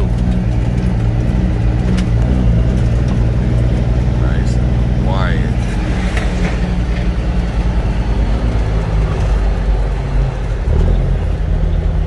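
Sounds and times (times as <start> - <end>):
diesel truck engine running: 0.0 - 12.0
road noise: 0.0 - 12.0.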